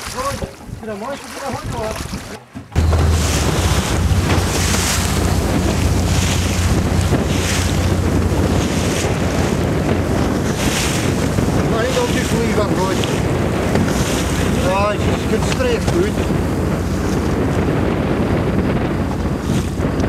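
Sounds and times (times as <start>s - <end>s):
choppy sea waves: 0.0s - 20.0s
wind buffeting microphone: 0.0s - 20.0s.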